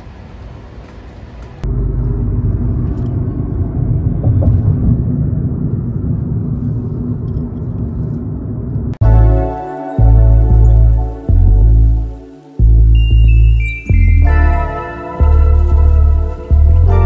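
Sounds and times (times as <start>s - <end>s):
car road and engine rumble: 0.0s - 17.0s
faint outdoor ambience: 0.0s - 17.0s.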